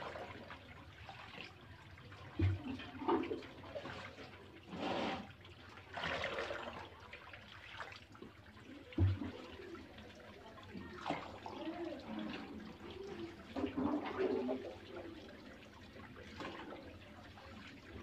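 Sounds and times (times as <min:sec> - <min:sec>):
liquid splashing and sloshing: 0:00.0 - 0:10.0, 0:10.7 - 0:18.0.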